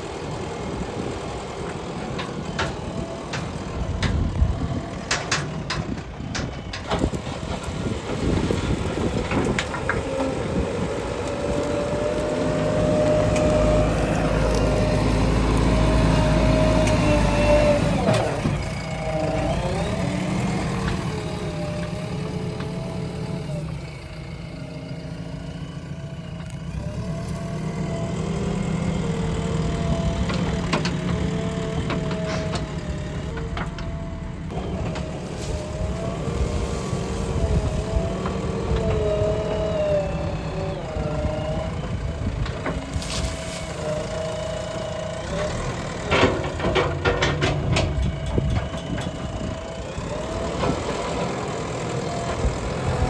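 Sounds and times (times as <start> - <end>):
diesel engine working: 0.0 - 53.0.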